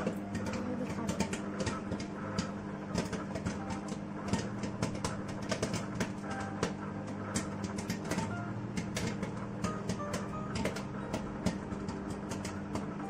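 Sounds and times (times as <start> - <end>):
microwave oven humming: 0.0 - 13.0
popcorn popping: 0.0 - 13.0.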